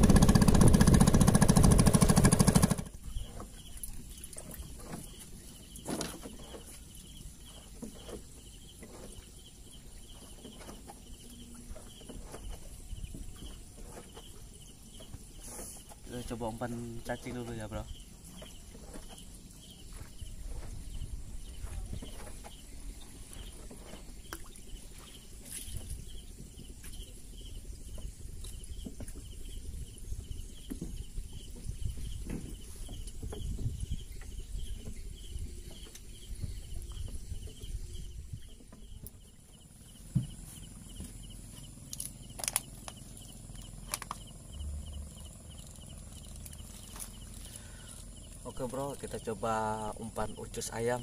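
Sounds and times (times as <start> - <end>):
insects chirping: 0.1 - 51.0.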